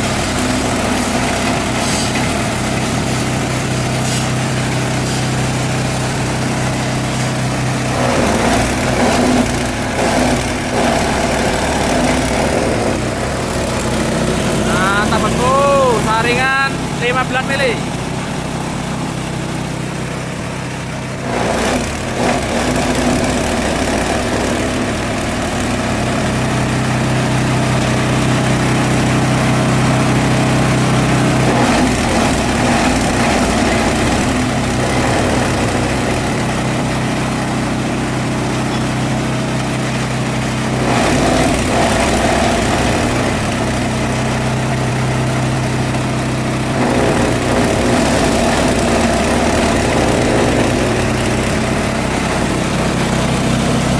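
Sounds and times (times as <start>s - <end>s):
chopper grinder machine drone: 0.0s - 53.9s.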